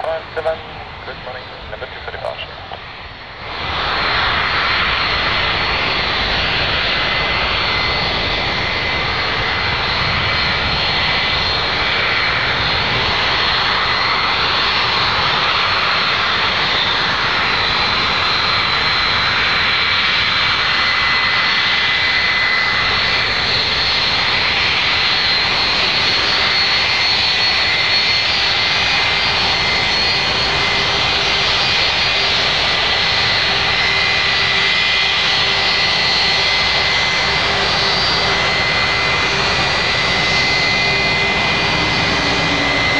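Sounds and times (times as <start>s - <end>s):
jet engines taxiing: 0.0s - 42.9s.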